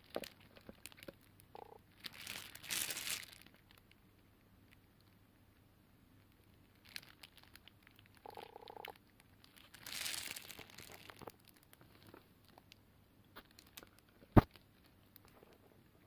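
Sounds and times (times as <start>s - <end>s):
soft rustling: 1.9s - 5.2s, 6.2s - 16.0s.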